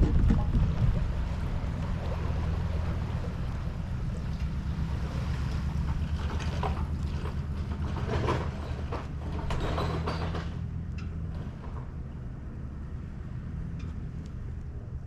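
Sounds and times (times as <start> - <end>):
rattles and knocks: 0.0 - 12.4
engine idling: 0.0 - 15.0.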